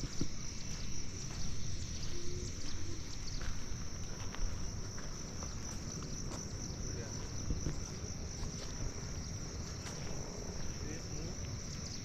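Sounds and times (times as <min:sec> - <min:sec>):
insects droning: 0:00.0 - 0:12.0
wind rumble on microphone: 0:00.0 - 0:12.0.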